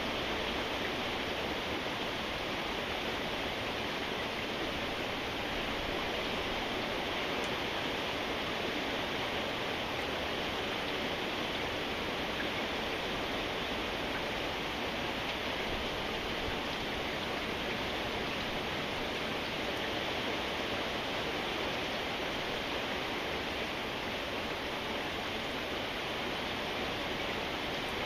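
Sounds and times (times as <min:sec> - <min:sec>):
steady rainfall: 0:00.0 - 0:28.0.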